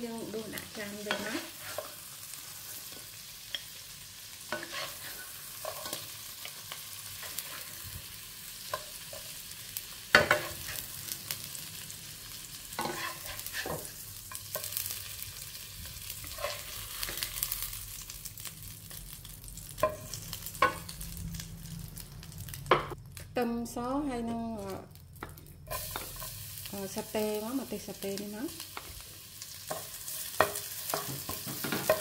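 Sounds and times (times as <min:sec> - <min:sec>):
oil sizzling in a wok: 0:00.0 - 0:32.0.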